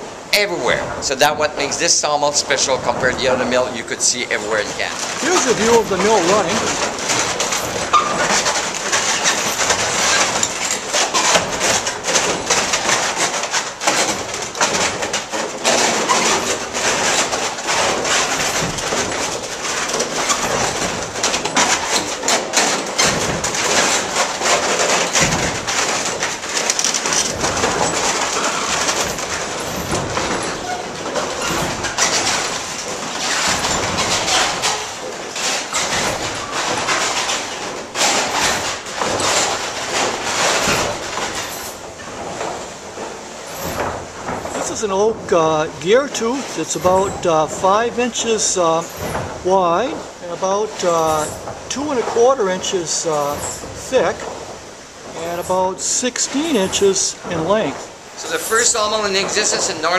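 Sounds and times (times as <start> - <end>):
wooden gears clattering: 0.0 - 59.9.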